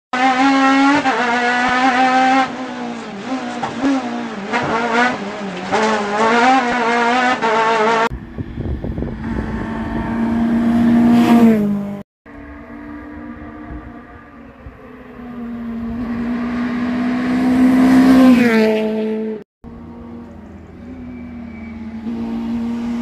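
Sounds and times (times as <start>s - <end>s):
rally car engine revving: 0.1s - 23.0s.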